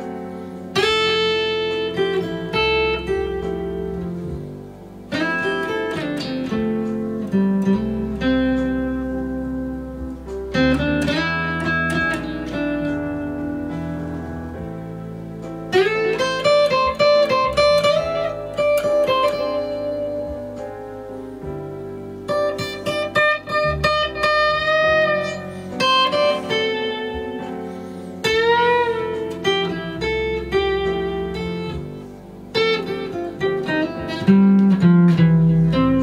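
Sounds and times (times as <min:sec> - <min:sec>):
guitar playing picked melody: 0:00.0 - 0:36.0.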